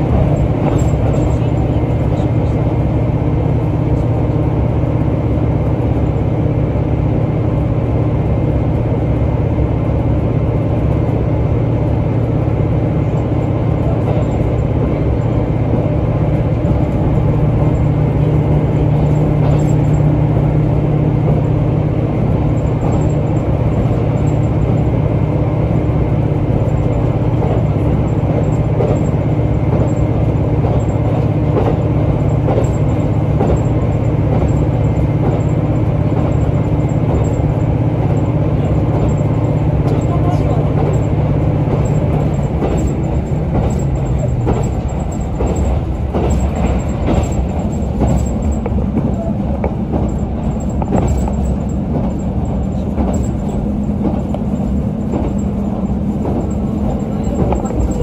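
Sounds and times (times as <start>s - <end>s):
railcar engine drone: 0.0s - 58.0s.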